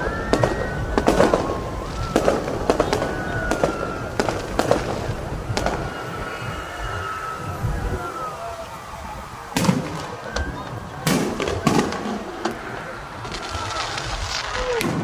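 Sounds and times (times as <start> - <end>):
fireworks bangs and crackles: 0.0 - 15.0
fireworks whistling: 0.0 - 15.0
low rumble: 0.0 - 15.0.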